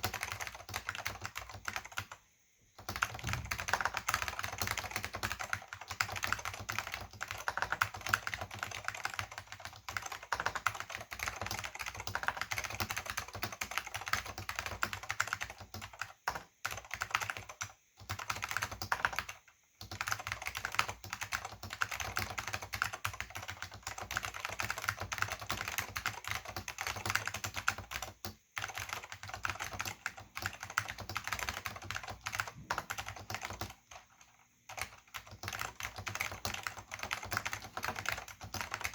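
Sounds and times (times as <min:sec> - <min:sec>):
fast typing on a keyboard: 0:00.0 - 0:02.2, 0:02.8 - 0:38.9.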